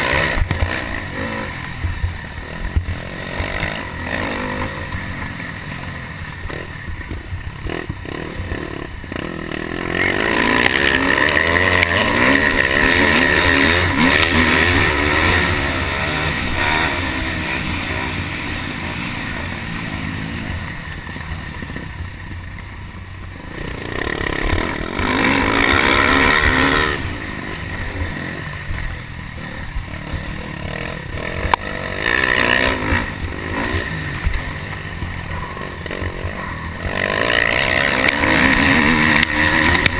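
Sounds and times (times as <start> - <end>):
dirt bike engine revving: 0.0 - 39.9
steady noisy wash: 0.0 - 39.9.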